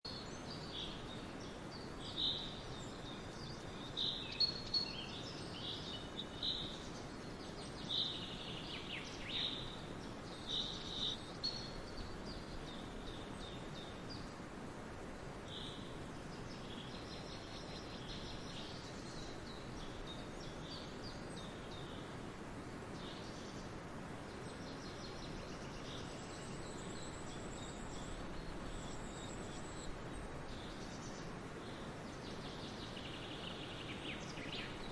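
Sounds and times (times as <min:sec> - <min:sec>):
songbirds chirping: 0:00.0 - 0:34.9
forest ambience hiss: 0:00.1 - 0:34.9.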